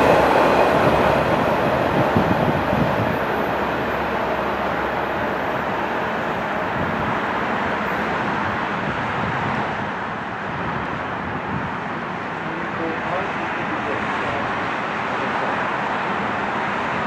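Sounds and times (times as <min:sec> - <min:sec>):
train rolling on rails: 0:00.0 - 0:17.0.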